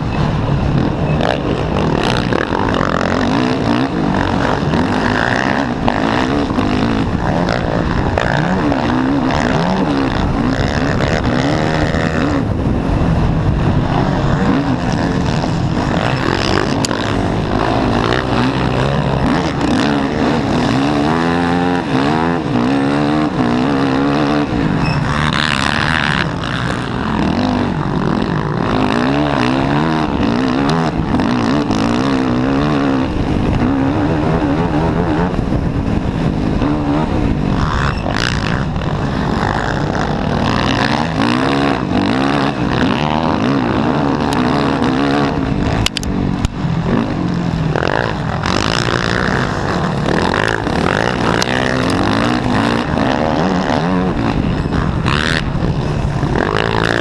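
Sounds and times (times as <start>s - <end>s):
quad engine revving: 0.0s - 57.0s
wind noise: 0.0s - 57.0s.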